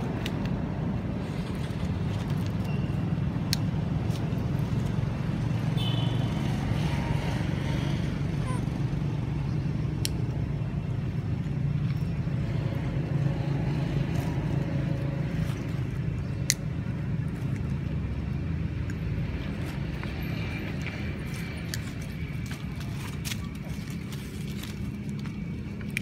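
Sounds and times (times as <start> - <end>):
engine rumble: 0.0 - 26.0.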